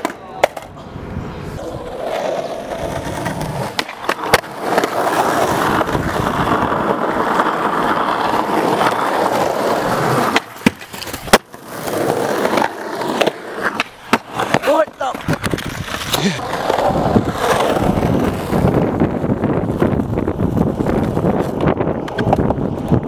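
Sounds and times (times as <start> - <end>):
skateboard clacking on concrete: 0.0 - 0.8, 1.6 - 23.0
skateboard wheels rolling on concrete: 0.0 - 23.0.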